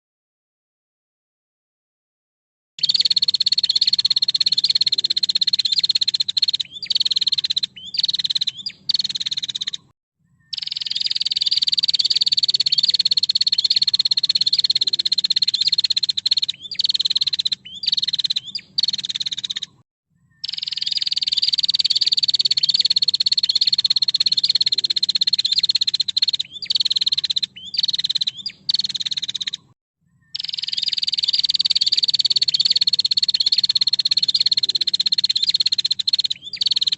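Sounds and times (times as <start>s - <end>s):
bird buzzing trill: 2.8s - 19.7s, 20.4s - 29.6s, 30.2s - 36.9s.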